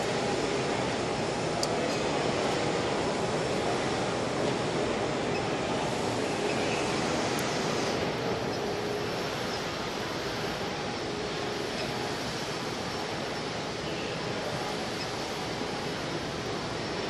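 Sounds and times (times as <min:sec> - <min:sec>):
machine belts and rollers running: 0:00.0 - 0:17.0.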